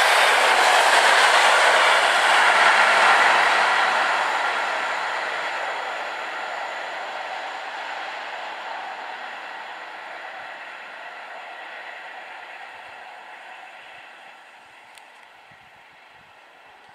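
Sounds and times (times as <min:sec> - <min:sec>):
electric train rolling on track: 0:00.0 - 0:16.9.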